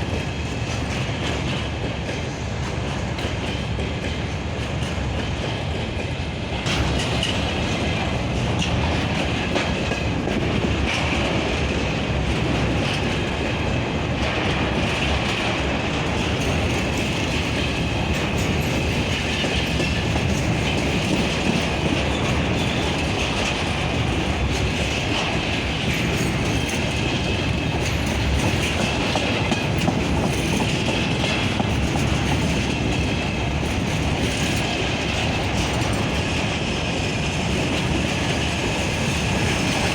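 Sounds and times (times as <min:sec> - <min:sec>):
train rolling past: 0:00.0 - 0:39.9
wheels clicking over rail joints: 0:00.1 - 0:39.9.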